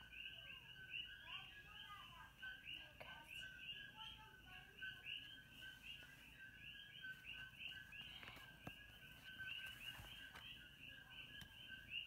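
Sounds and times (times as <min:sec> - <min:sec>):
faint high-pitched chirping: 0:00.0 - 0:12.0.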